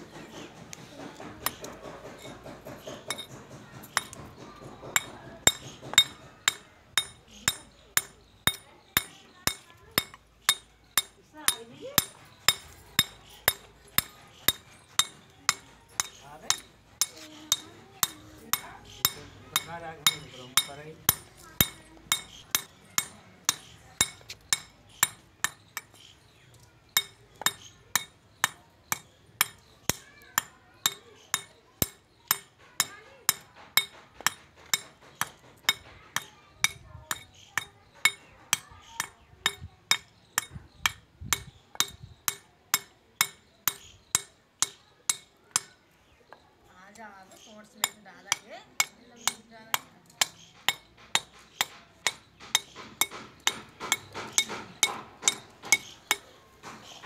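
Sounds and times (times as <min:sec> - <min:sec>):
hammer clinking on stone: 0:01.1 - 0:45.8, 0:47.8 - 0:57.0.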